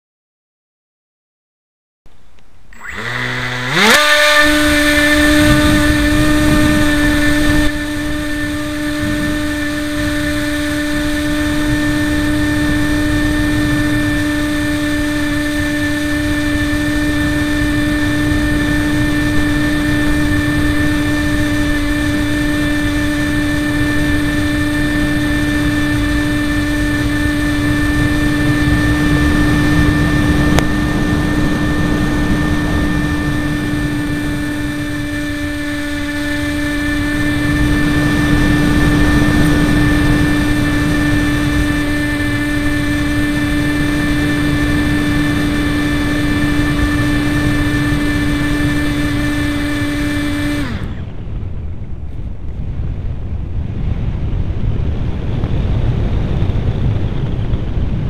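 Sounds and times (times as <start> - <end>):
electric motor propeller whine: 2.7 - 58.0
wind rumbling over microphone: 3.7 - 58.0.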